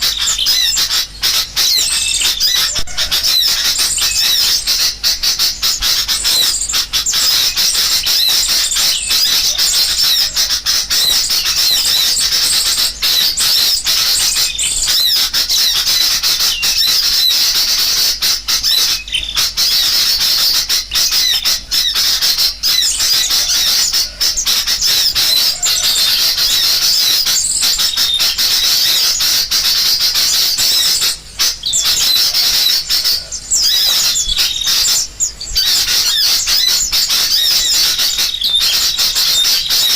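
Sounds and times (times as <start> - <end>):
many birds chattering: 0.0 - 39.9.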